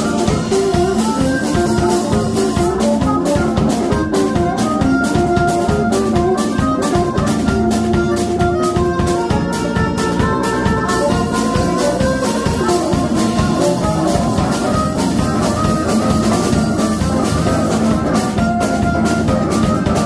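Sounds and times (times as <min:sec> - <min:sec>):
drum kit beat: 0:00.0 - 0:20.0
electric bass: 0:00.0 - 0:20.0
electric guitar: 0:00.0 - 0:20.0
harmonica: 0:00.0 - 0:20.0.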